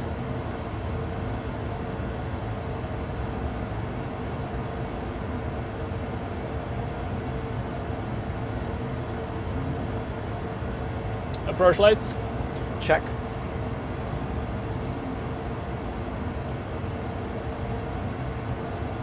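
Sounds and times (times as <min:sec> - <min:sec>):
low rumble of airflow and engines: 0:00.0 - 0:19.0
steady hum: 0:00.0 - 0:19.0
faint high ticking: 0:00.2 - 0:19.0.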